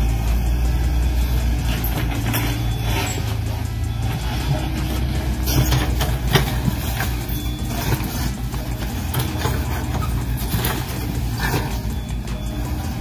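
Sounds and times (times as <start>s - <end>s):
simulated diesel engine idling: 0.0s - 13.0s.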